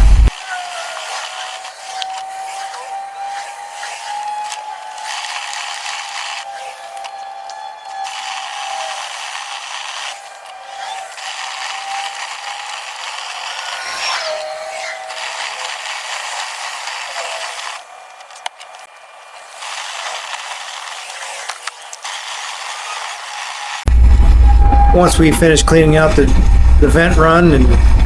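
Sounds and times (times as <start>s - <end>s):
motor whining: 0.0s - 28.0s.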